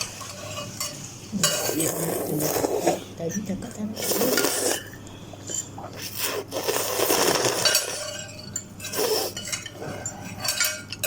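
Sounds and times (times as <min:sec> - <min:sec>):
cutlery scraping a bowl: 0:00.0 - 0:03.0, 0:04.0 - 0:11.0.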